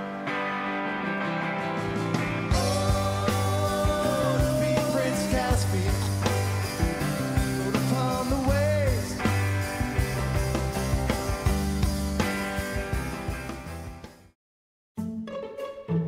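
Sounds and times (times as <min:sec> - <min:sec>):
rock music with steady beat: 0:00.0 - 0:14.3.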